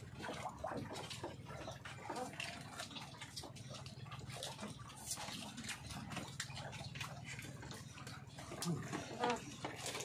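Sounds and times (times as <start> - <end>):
chewing and lip-smacking: 0.2 - 10.0.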